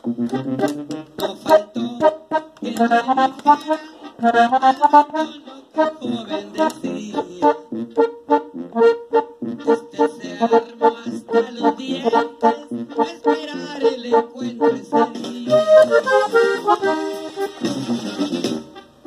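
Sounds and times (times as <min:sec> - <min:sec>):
button accordion melody: 0:00.0 - 0:19.0.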